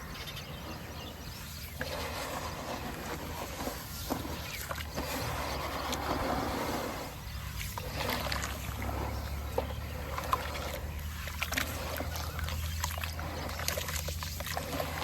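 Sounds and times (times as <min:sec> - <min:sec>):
steady low hum: 0:00.0 - 0:15.0
cement crackling in water: 0:01.8 - 0:15.0.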